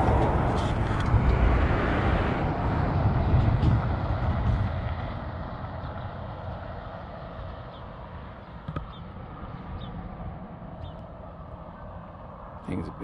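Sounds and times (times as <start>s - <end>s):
passing road vehicle rumble: 0.0s - 13.0s.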